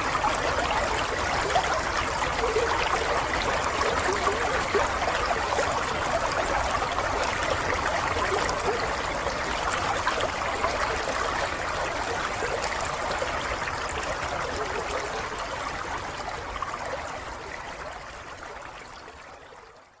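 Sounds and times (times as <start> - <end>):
stream trickling and babbling: 0.0 - 20.0.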